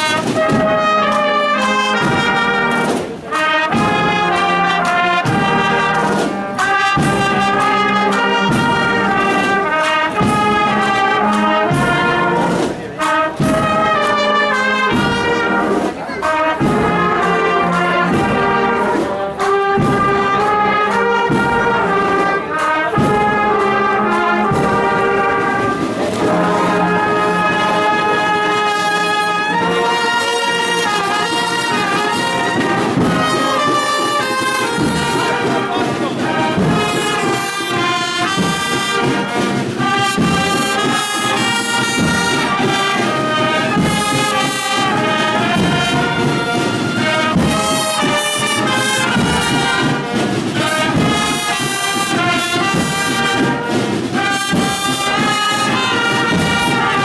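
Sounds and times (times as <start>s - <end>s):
brass playing slow march melody: 0.0s - 57.0s
steady drum strokes: 0.0s - 57.0s.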